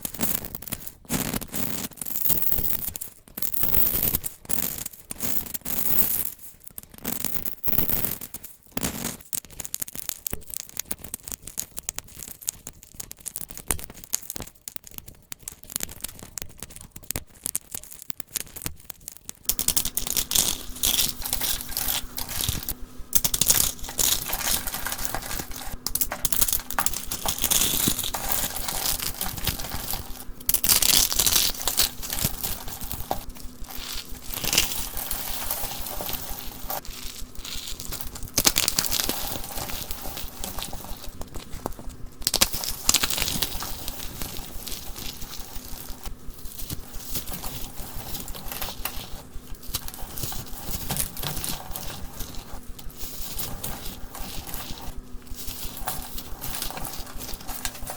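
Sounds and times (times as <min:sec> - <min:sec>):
soap crunching and crackling: 0:00.0 - 0:57.9
soap scraping and clicking: 0:00.0 - 0:57.9.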